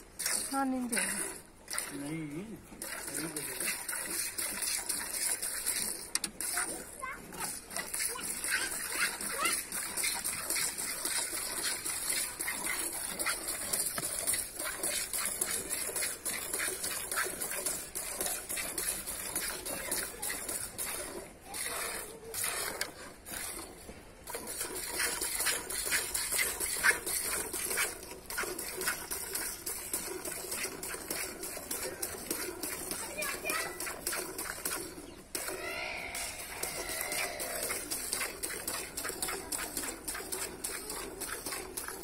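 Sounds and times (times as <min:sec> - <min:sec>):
milk squirting into metal bucket: 0:00.0 - 0:42.0.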